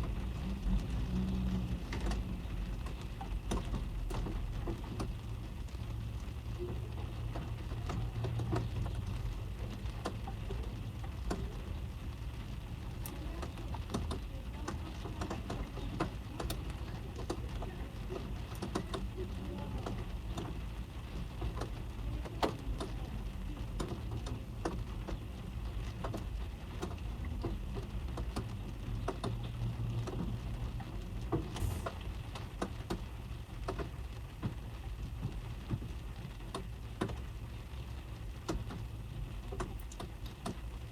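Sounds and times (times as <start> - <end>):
raindrops tapping on car body: 0.0 - 40.9.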